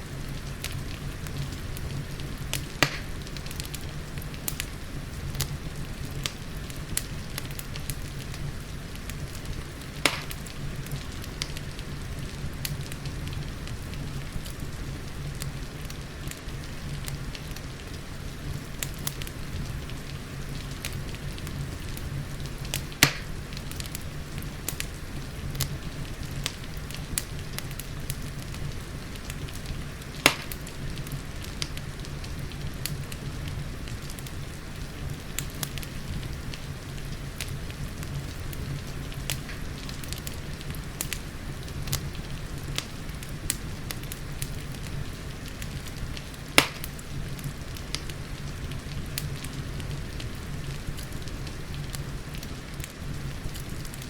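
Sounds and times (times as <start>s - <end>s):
loud pops from fire: 0.0s - 54.0s
steady rain hiss: 0.0s - 54.0s
wood fire crackling: 0.0s - 54.0s.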